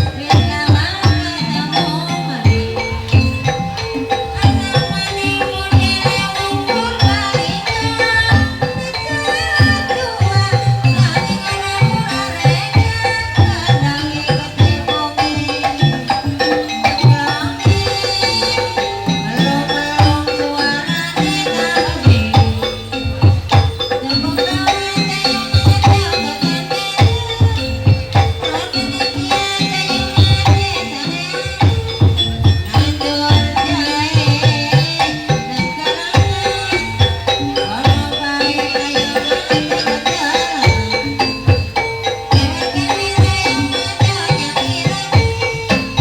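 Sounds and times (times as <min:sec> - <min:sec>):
hand drums beating: 0:00.0 - 0:46.0.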